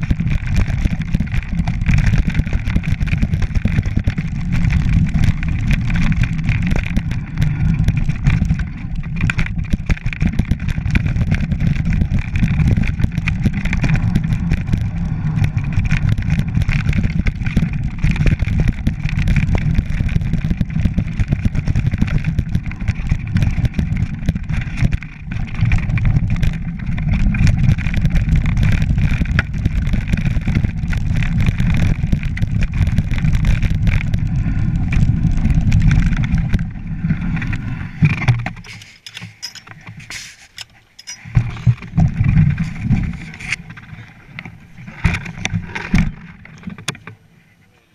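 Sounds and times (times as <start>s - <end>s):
bike frame rattling: 0.0s - 47.2s
bike tyres rumbling over ground: 0.0s - 47.9s.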